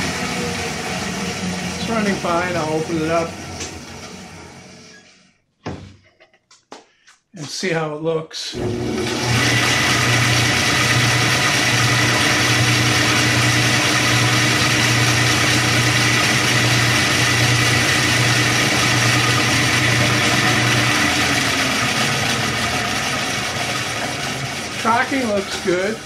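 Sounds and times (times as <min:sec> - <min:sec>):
bandsaw running: 0:00.0 - 0:05.0, 0:08.5 - 0:26.0.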